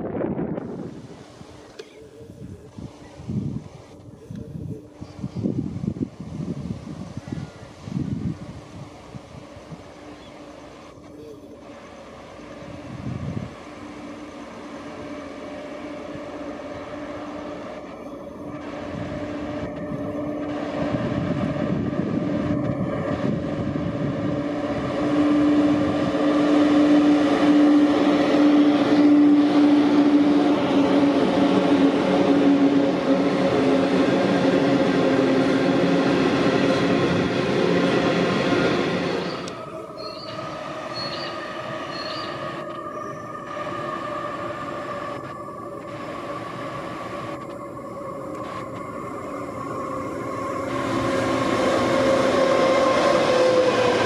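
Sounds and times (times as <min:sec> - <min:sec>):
diesel locomotive running: 0:00.0 - 0:54.0
electric locomotive humming: 0:00.0 - 0:54.0.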